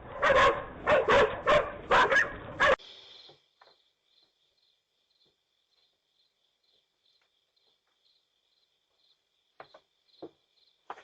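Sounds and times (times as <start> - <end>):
faint crickets chirping: 1.1 - 11.0.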